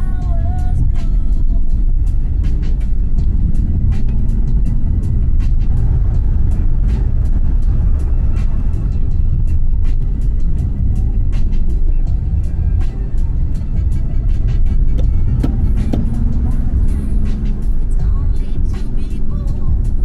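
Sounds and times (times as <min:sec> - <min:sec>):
engine and tyre rumble: 0:00.0 - 0:20.0.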